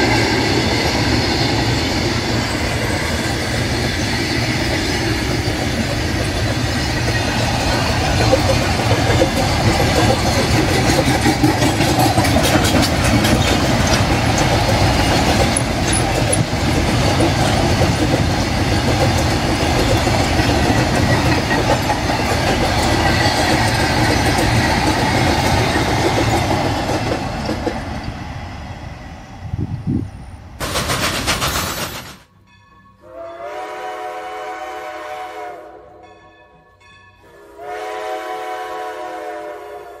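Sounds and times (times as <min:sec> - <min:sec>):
freight train rumble and clatter: 0:00.0 - 0:32.8.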